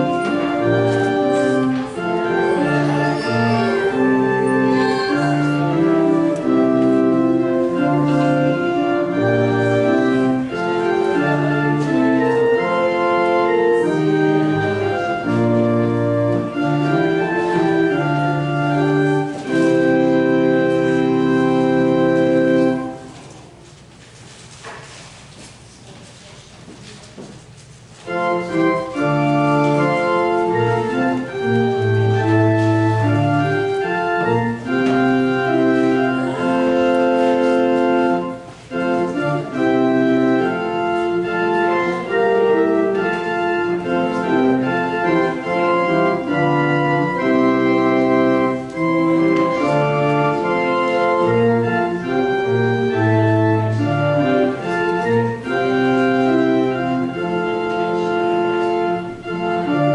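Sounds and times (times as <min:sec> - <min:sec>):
church organ playing chords: 0:00.0 - 0:23.4, 0:28.0 - 0:59.9.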